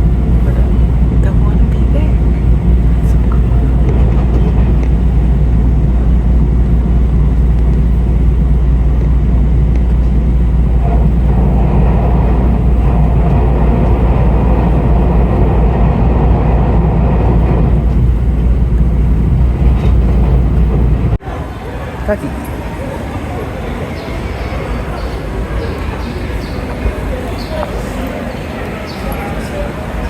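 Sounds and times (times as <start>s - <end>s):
passenger train rumbling: 0.0s - 30.0s
rushing track noise: 0.0s - 30.0s.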